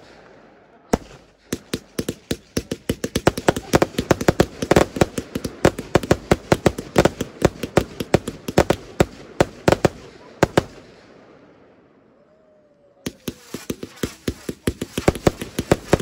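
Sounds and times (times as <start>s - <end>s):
fireworks bangs: 0.0s - 11.5s, 13.0s - 16.0s.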